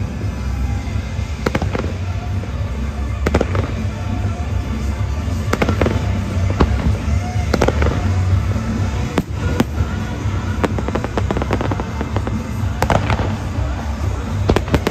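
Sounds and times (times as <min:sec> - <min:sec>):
fireworks bangs: 0:00.0 - 0:14.9
music playing: 0:00.0 - 0:14.9.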